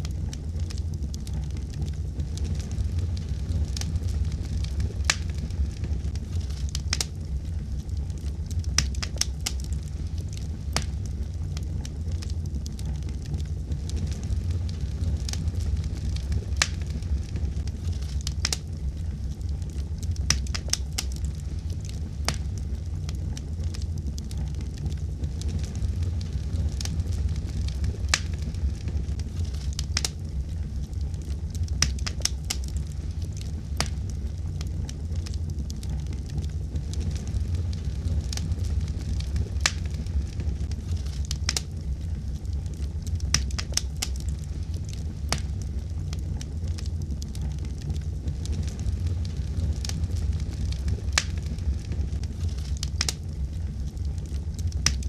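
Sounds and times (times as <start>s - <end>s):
fire crackles and pops: 0.0s - 55.0s
wood fire burning: 0.0s - 55.0s.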